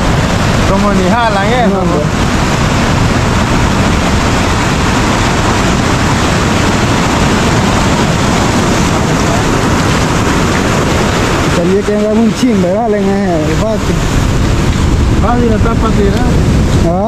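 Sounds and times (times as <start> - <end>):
ocean surf rushing: 0.0 - 17.0.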